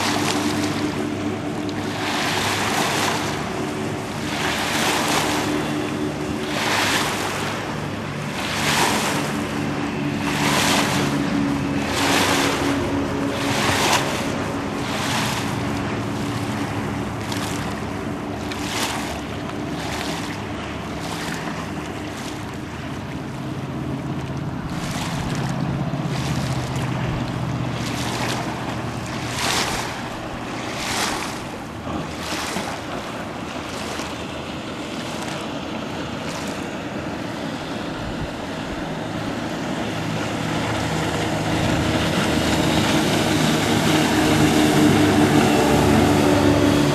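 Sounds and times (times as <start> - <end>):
boat engines droning: 0.0 - 46.9
rush of water and wind: 0.0 - 46.9.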